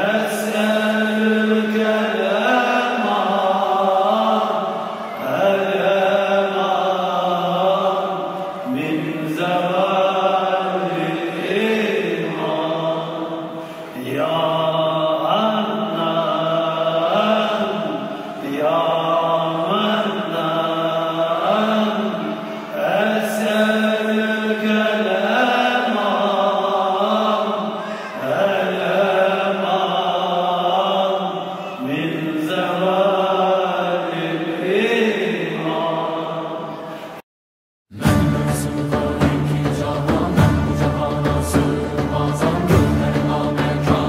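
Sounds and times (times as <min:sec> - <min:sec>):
men chanting a hymn: 0:00.0 - 0:37.2, 0:37.9 - 0:44.0.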